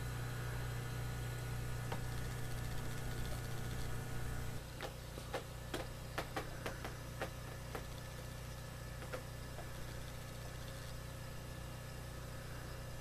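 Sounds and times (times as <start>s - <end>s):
aquarium equipment humming: 0.0s - 13.0s.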